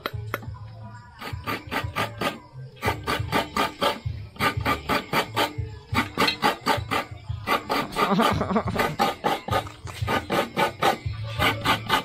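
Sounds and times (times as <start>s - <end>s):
knife scraping coconut: 1.2s - 12.0s.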